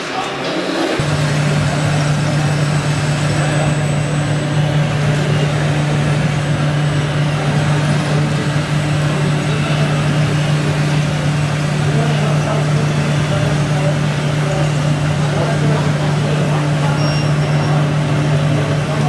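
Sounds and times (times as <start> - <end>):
simulated engine drone: 0.0 - 19.0.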